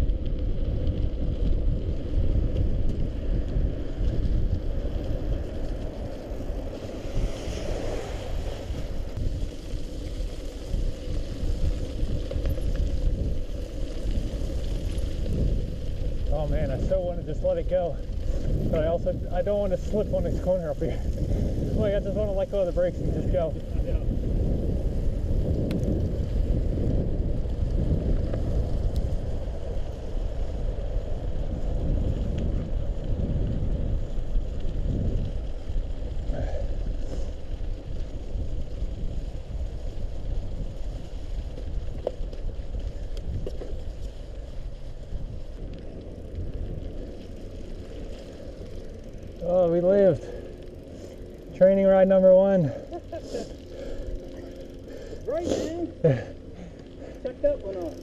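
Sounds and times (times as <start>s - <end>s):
tyres rolling over snowy gravel: 0.0s - 58.0s
wind buffeting microphone: 0.0s - 58.0s.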